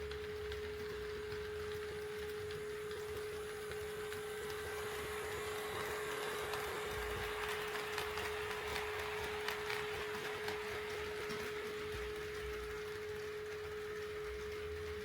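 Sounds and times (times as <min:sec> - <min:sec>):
model train wheels whirring: 0:00.0 - 0:15.0.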